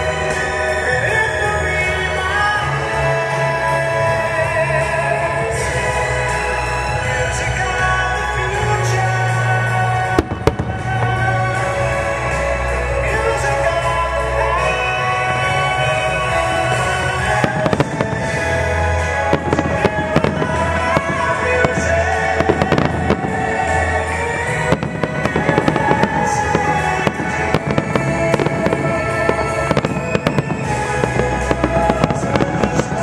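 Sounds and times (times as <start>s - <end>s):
firework bangs and crackles: 0.0s - 33.0s
music playing: 0.0s - 33.0s.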